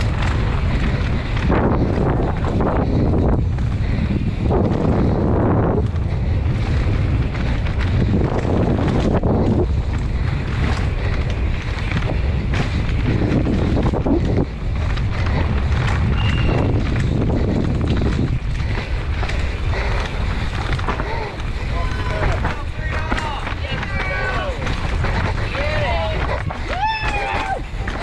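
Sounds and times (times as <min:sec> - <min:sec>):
bike clattering on rocky trail: 0:00.0 - 0:28.0
wind buffeting microphone: 0:00.0 - 0:28.0.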